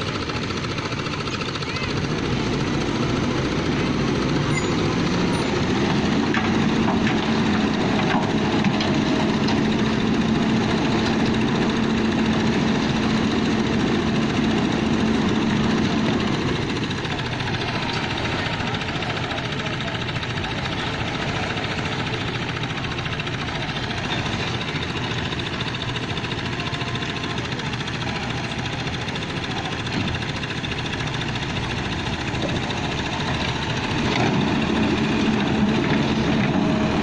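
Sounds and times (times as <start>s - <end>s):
concrete machinery running: 0.0s - 37.0s.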